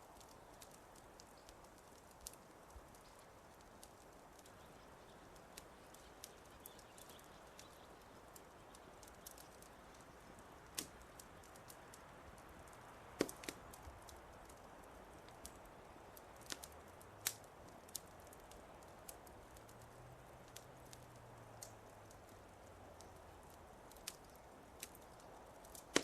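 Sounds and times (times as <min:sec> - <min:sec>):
faint steady hiss: 0:00.0 - 0:26.0
wood fire crackling and popping: 0:00.0 - 0:26.0.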